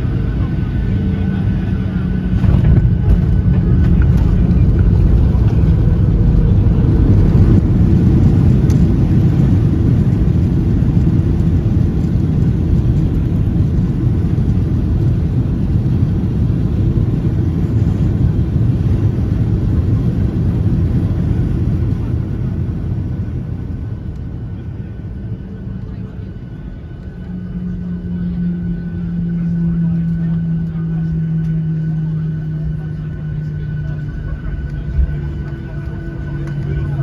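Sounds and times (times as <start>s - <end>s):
jet cabin engine rumble: 0.0s - 37.0s.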